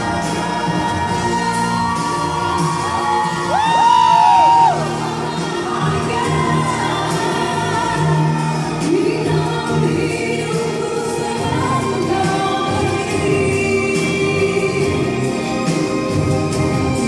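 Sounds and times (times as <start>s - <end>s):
choir-like backing vocals: 0.0s - 17.0s
live band playing pop ballad: 0.0s - 17.0s
person singing: 0.0s - 17.0s.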